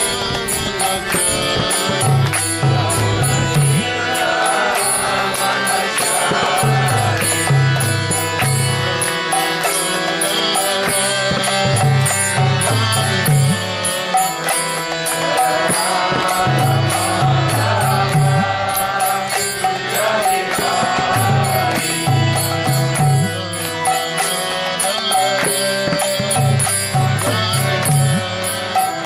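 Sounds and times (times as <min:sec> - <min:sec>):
instrumental accompaniment: 0:00.0 - 0:29.0
mantra chanted in song: 0:00.0 - 0:29.0.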